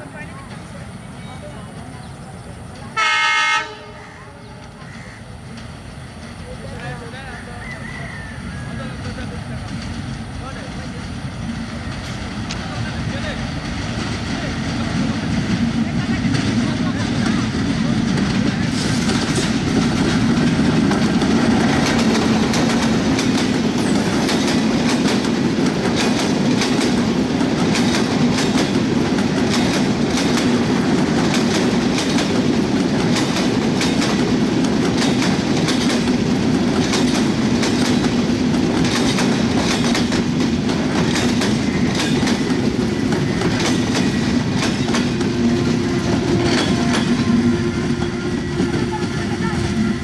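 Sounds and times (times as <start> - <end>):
train rumble: 0.0 - 50.0
train wheels clattering: 8.1 - 50.0.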